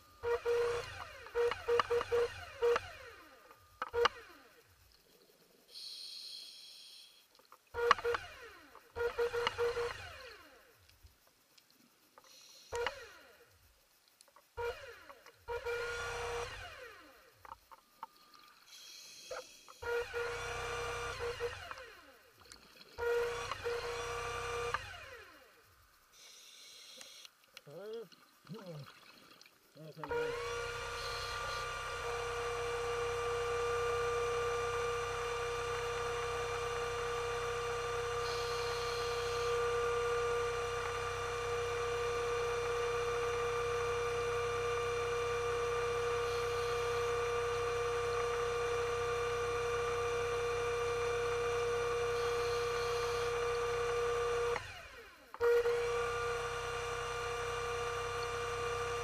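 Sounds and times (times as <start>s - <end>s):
underwater motor whine: 0.0s - 5.1s, 7.7s - 10.8s, 12.3s - 13.5s, 14.5s - 27.3s, 30.0s - 59.0s.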